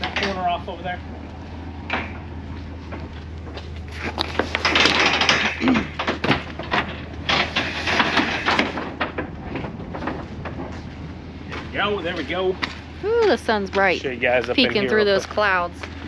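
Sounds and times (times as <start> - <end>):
low hum: 0.0 - 16.0
road salt scraping: 2.5 - 16.0.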